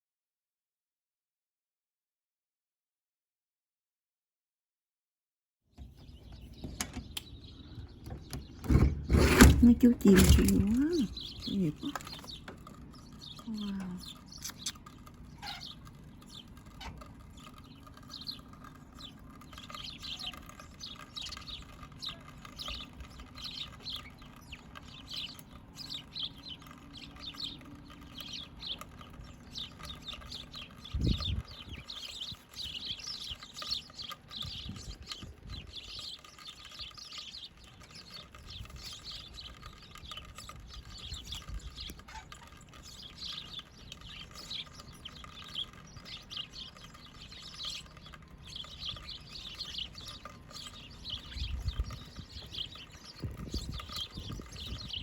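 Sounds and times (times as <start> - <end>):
small birds chirping: 5.7 - 55.0.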